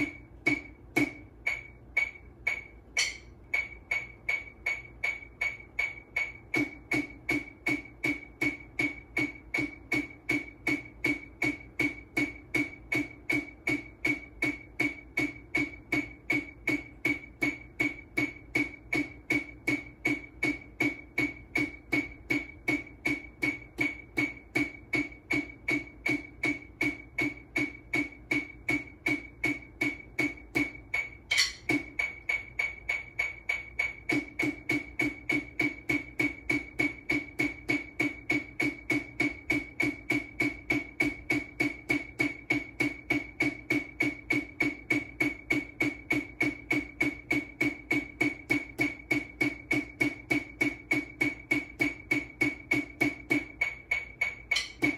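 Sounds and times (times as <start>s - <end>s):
drumsticks tapping snare drum: 0.0s - 54.9s.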